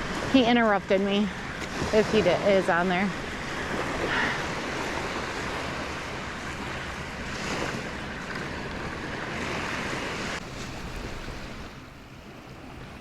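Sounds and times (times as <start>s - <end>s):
surf washing onto beach: 0.0s - 13.0s
wind on microphone: 0.0s - 13.0s.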